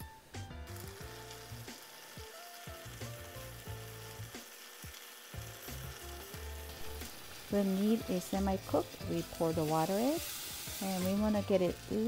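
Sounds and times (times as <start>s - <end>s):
meat sizzling in a pot: 0.0s - 12.0s
soft background music: 0.0s - 12.0s.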